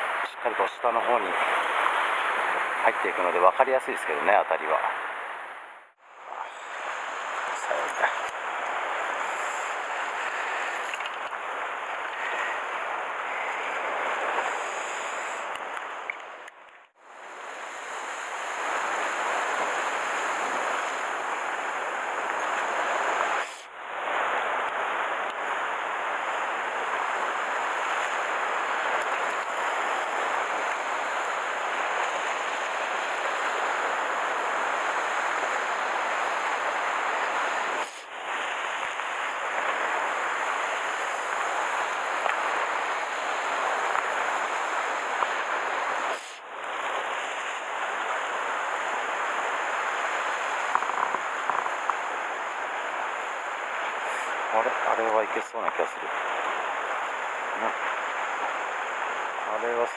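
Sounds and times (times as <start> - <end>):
sea surf on rocky shore: 0.0 - 59.9
wind: 0.0 - 59.9.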